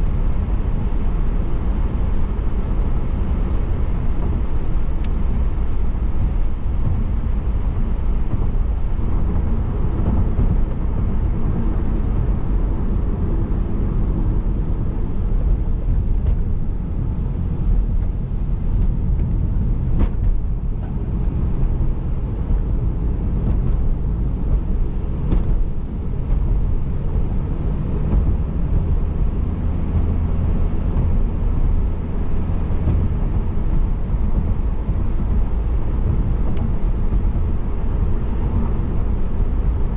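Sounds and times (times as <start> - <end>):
tyre noise on wet road: 0.0 - 39.9.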